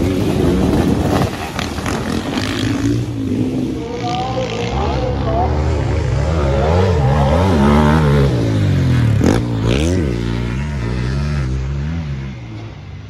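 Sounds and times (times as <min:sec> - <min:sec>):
motorcycle passing close: 0:00.0 - 0:13.0
racing motorcycle engines revving: 0:00.0 - 0:13.0.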